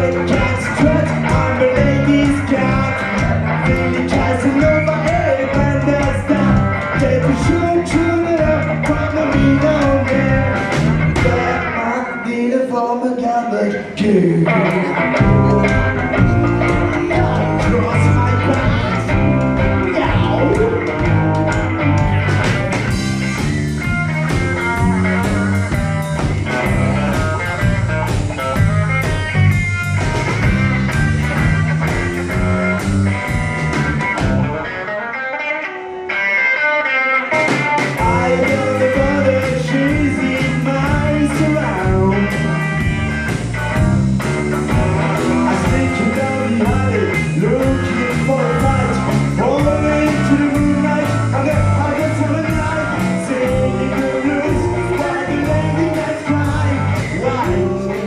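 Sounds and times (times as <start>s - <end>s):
lead guitar: 0.0s - 58.0s
rock band playing: 0.0s - 58.0s.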